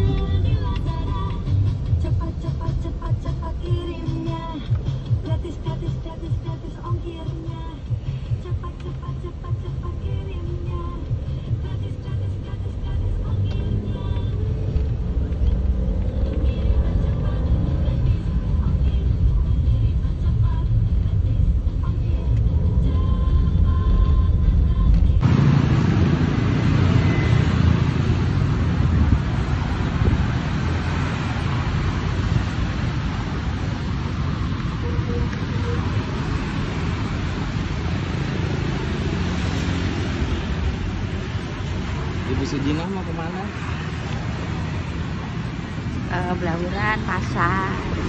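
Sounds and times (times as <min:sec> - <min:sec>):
car engine from inside cabin: 0:00.0 - 0:48.0
road noise: 0:00.0 - 0:48.0
street traffic rumble: 0:00.0 - 0:48.0.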